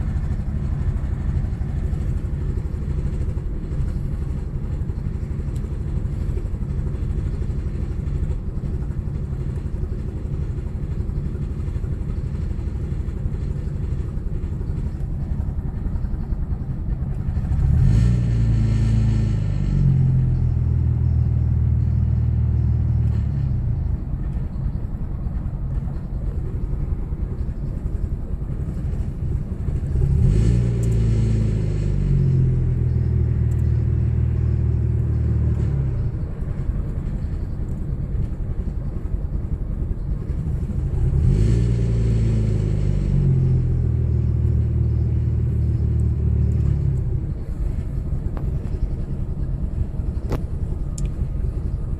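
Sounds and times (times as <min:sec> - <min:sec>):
car engine running with misfire: 0:00.0 - 0:51.9.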